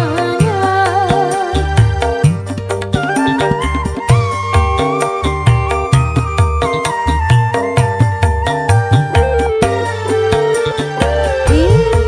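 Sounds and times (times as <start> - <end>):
bass: 0.0 - 12.0
keyboard melody: 0.0 - 12.0.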